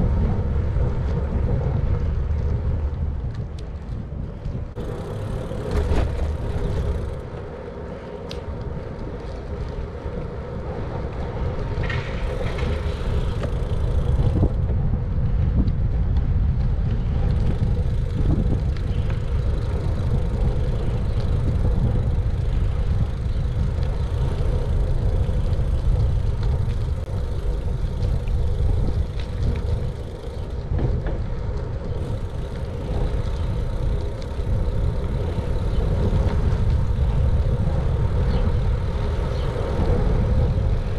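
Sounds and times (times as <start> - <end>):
bike tyres rolling on pavement: 0.0 - 40.9
wind rumble on microphone: 0.0 - 40.9.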